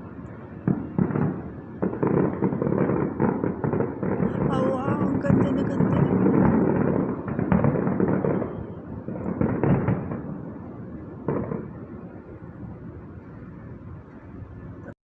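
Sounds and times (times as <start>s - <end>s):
distant fireworks bursting: 0.5s - 14.6s.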